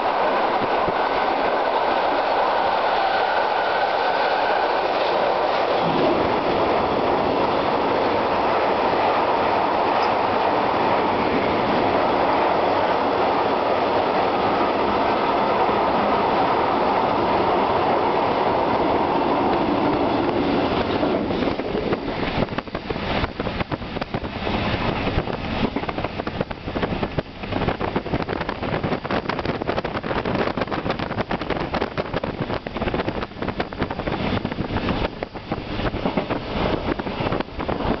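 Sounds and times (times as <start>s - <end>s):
train rumble inside coach: 0.0s - 38.0s
train wheels rattling on track: 0.0s - 38.0s.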